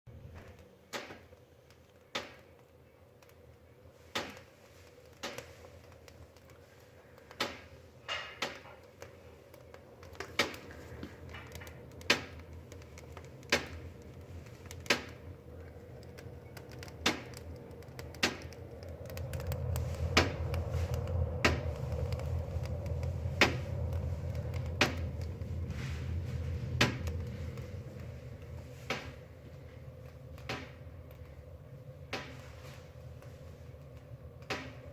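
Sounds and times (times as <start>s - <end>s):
low steady rumble: 0.1s - 34.9s
wood fire crackling: 0.1s - 34.9s.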